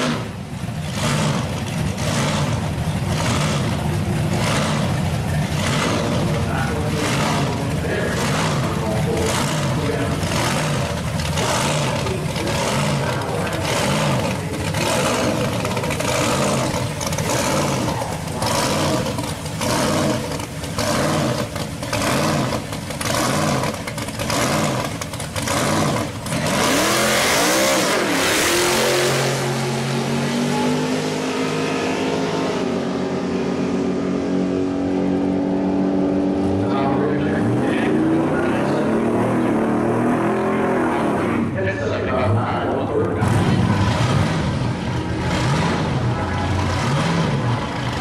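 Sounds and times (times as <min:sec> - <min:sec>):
drag car engine revving: 0:00.0 - 0:48.0
second drag car engine: 0:00.0 - 0:48.0.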